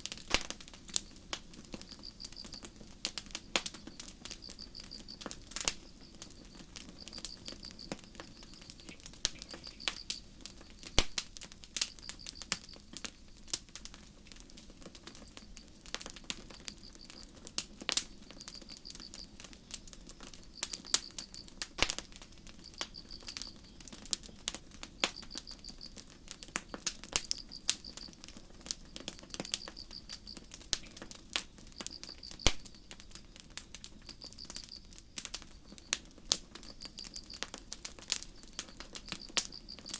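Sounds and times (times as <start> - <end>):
campfire crackling and popping: 0.0 - 39.9
crickets chirping: 0.8 - 13.6, 15.0 - 39.9.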